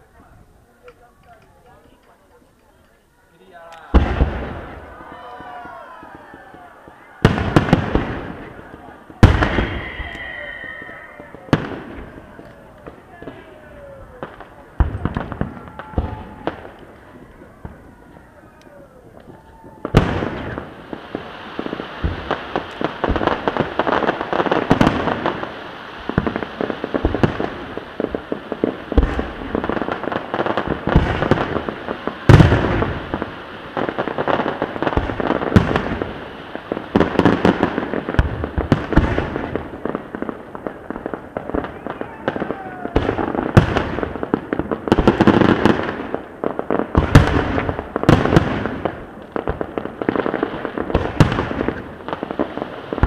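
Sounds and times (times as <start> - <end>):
fireworks bangs: 0.0 - 53.0
fireworks crackling: 0.0 - 53.0.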